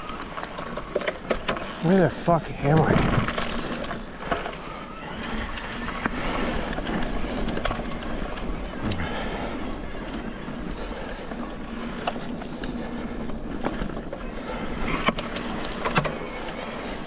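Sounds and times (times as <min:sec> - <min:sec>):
bike clacks and rattles: 0:00.0 - 0:17.0
bike rolling on dirt trail: 0:00.0 - 0:17.0.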